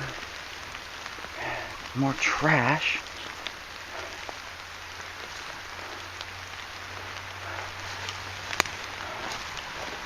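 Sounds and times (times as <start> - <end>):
light rain hissing: 0.0 - 10.0
rain drop ticks: 0.0 - 10.0.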